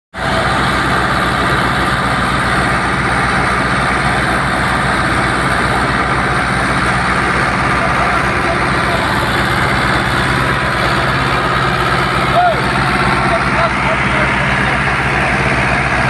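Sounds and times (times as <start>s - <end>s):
tractor diesel engine running: 0.1s - 16.0s
thresher whirring clatter: 0.2s - 16.0s.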